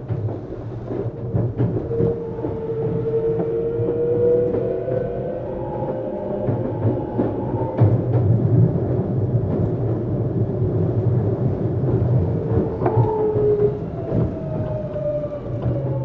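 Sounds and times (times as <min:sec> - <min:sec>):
rail-joint clacks: 0:00.0 - 0:16.0
train wheels rumbling on rail: 0:00.0 - 0:16.0.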